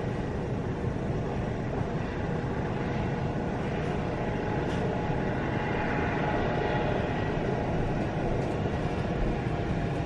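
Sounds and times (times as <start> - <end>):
helicopter engine and rotors: 0.0 - 10.0.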